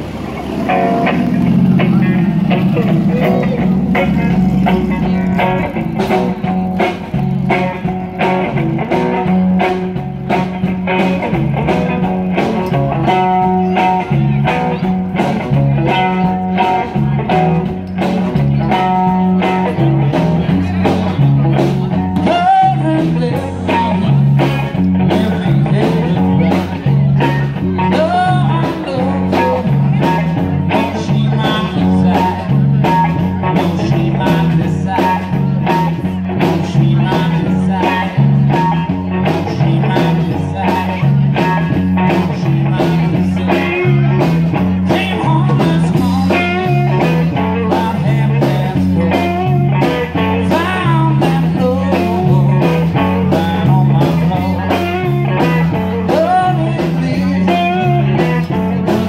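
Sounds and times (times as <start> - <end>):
bass line: 0.0 - 59.0
guitar: 0.0 - 59.0
steady drum beat: 0.0 - 59.0.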